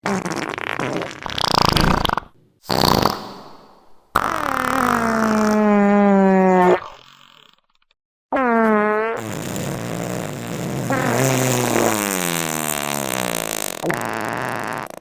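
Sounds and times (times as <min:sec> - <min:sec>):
fart sound effects: 0:00.0 - 0:07.6, 0:08.3 - 0:15.0.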